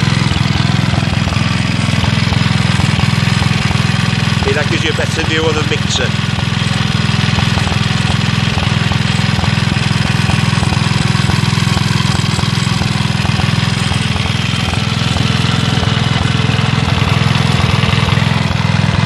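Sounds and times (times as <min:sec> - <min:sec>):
stationary engine running: 0:00.0 - 0:19.0.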